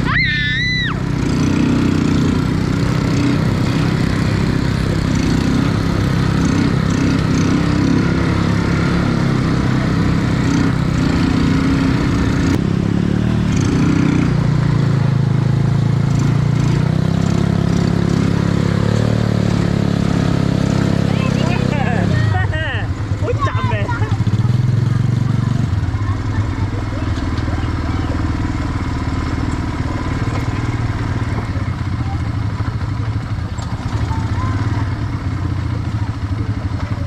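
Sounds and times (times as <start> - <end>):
quad bike engine running: 0.0 - 37.0.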